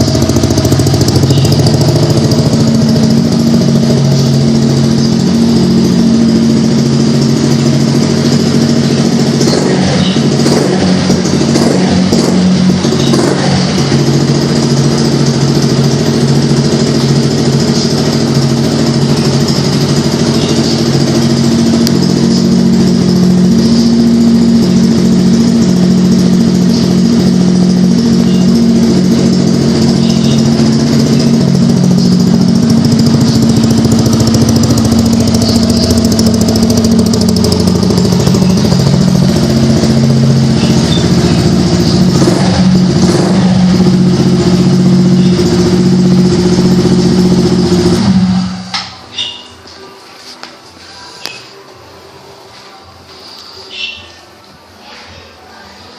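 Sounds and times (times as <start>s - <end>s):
scooter engine idling: 0.0s - 55.9s.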